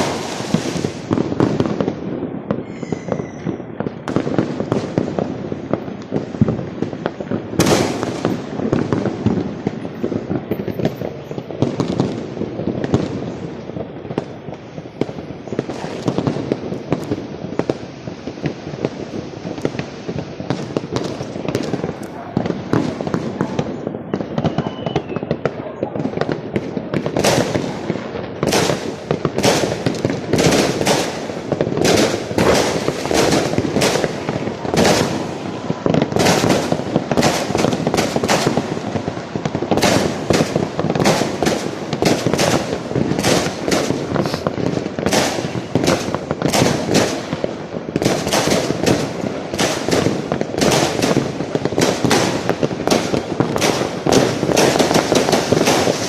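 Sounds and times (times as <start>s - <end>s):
fireworks banging: 0.0s - 56.0s
fireworks crackling: 0.0s - 56.0s.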